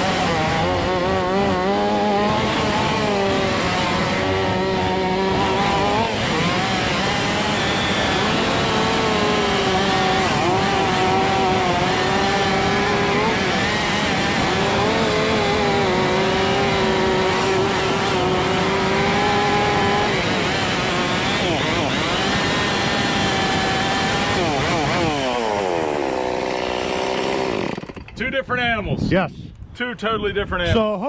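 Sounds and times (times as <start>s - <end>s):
chainsaws cutting logs: 0.0s - 28.3s.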